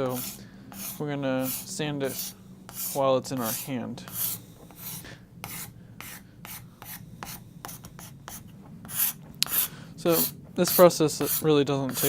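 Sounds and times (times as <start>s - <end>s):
sandpaper rasping on wood: 0.0s - 12.0s.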